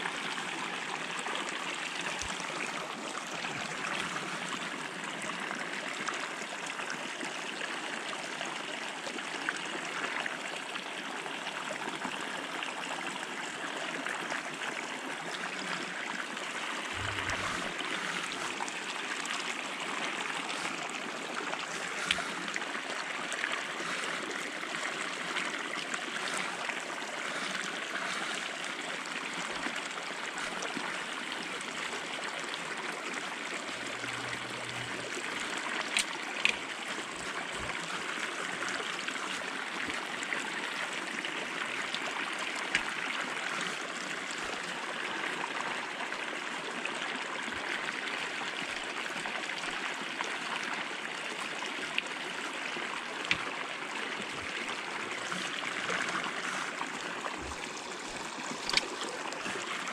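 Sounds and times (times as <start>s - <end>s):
stream rushing over rocks: 0.0s - 8.4s, 11.6s - 59.9s.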